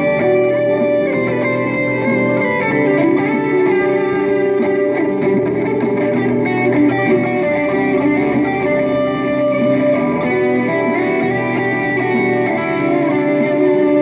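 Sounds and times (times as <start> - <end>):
electric guitar melodic line: 0.0 - 14.0.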